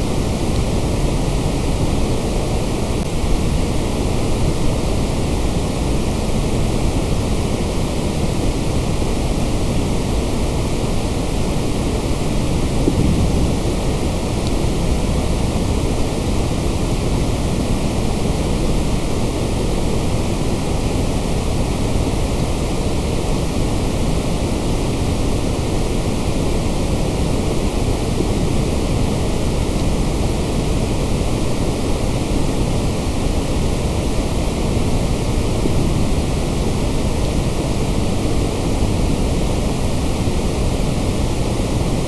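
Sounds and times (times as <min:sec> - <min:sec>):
white noise hiss: 0:00.0 - 0:42.0.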